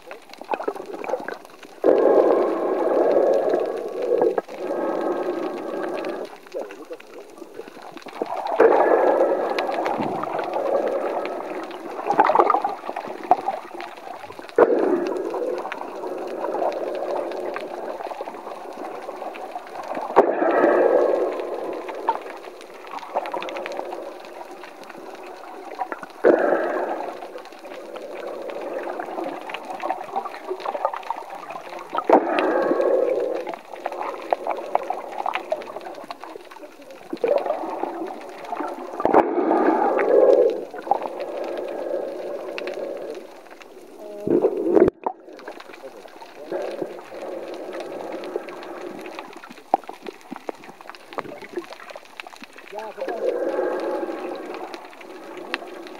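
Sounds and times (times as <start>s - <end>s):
muffled underwater water sloshing: 0.0s - 55.9s.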